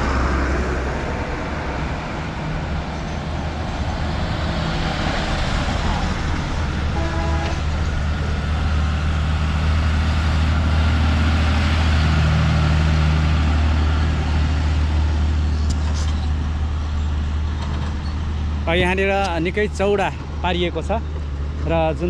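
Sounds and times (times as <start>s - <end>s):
road traffic hum: 0.0s - 22.0s.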